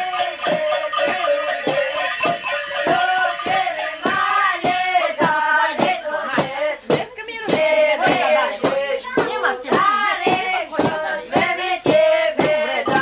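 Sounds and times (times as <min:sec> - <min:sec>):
group singing a christmas song: 0:00.0 - 0:13.0
sharp rhythmic knocks: 0:00.0 - 0:13.0.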